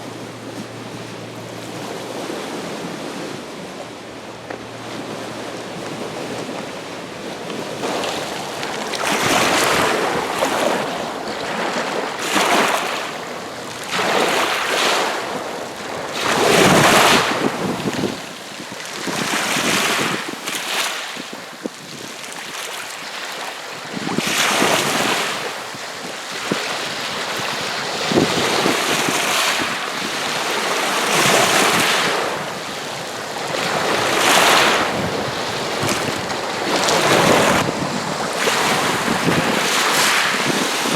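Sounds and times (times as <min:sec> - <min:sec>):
lake waves splashing on shore: 0:04.5 - 0:40.9.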